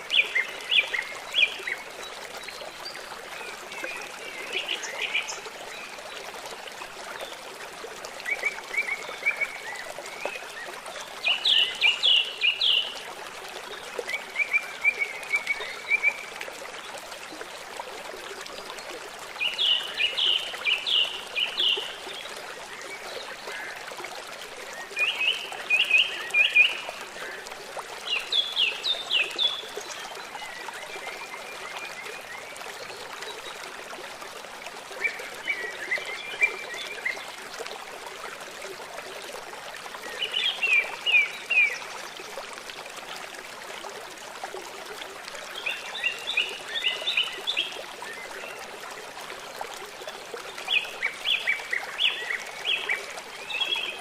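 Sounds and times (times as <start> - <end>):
river water running: 0.0 - 54.0.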